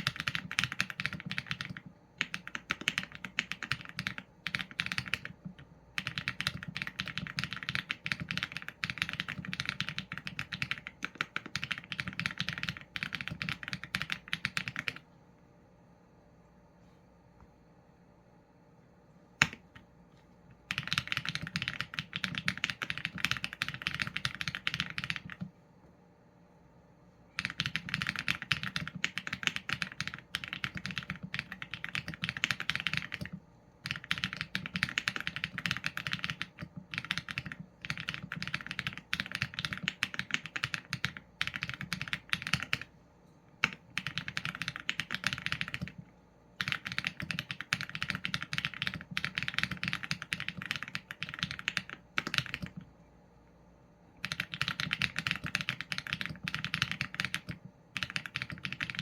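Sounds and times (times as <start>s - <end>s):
mechanical keyboard typing: 0.0s - 15.0s, 20.6s - 25.5s, 27.3s - 42.9s, 43.6s - 52.9s, 54.2s - 59.0s.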